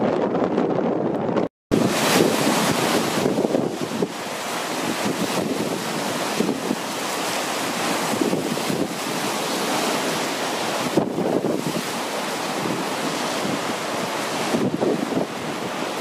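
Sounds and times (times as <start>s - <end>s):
wind buffeting microphone: 0.0s - 16.0s
waves breaking on rocks: 1.7s - 16.0s.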